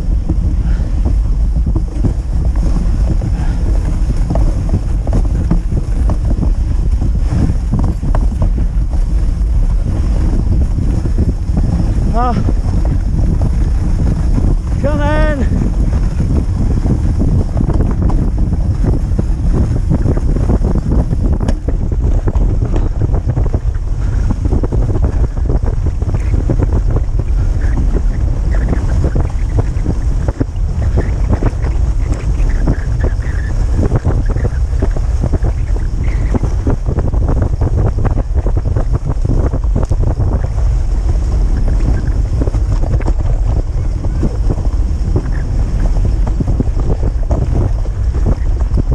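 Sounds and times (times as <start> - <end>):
sled knocking on trail: 0.0 - 48.9
sled runners scraping on snow: 0.0 - 48.9
wind noise on microphone: 0.0 - 48.9.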